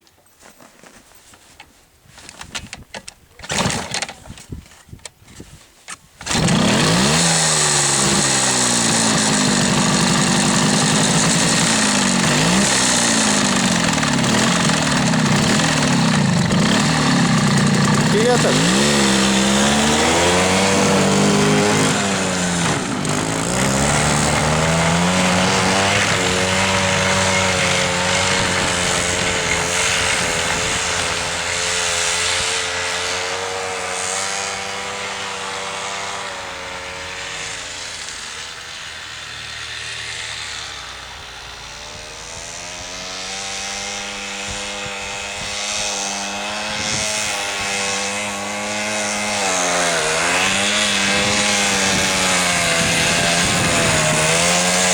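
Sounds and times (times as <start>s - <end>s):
motorcycle engine revving: 3.4s - 4.2s, 6.2s - 54.9s.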